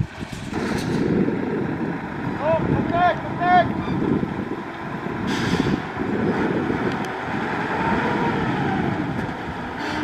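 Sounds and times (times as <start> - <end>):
diesel machinery engine rumble: 0.0 - 10.0.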